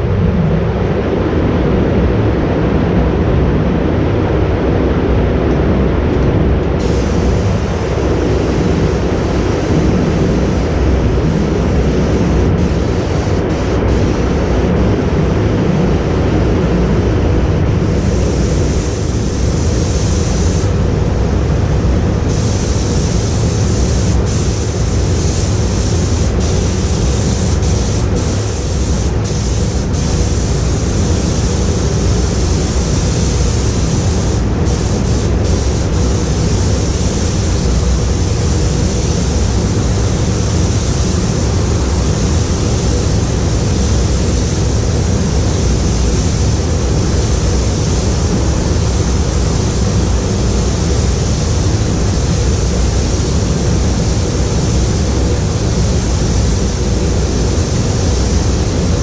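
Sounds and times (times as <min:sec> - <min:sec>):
ventilation rumble: 0:00.0 - 0:59.0
compressed air gun hissing: 0:06.7 - 0:20.8, 0:22.2 - 0:59.0.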